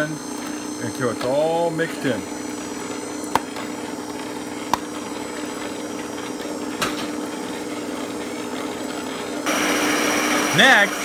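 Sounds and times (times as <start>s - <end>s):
stand mixer motor whining: 0.0s - 11.0s.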